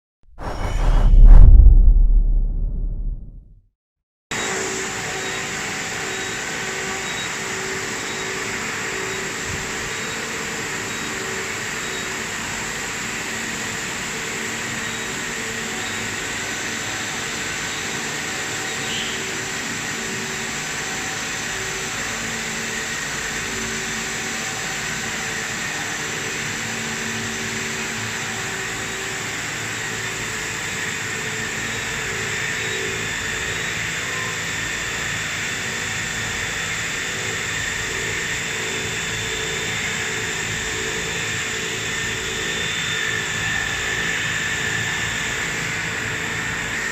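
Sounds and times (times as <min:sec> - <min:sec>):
machine hum and hiss: 0:04.5 - 0:46.9.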